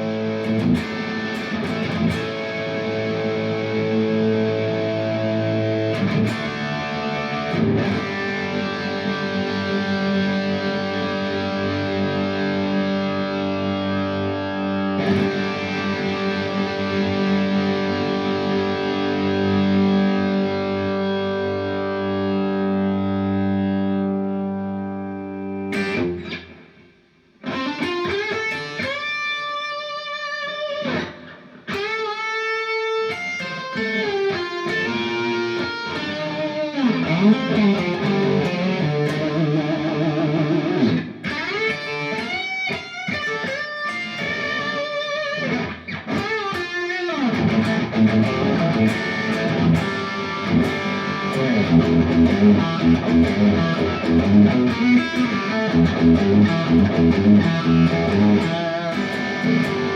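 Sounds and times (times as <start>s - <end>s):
distorted electric guitar: 0.0s - 59.9s.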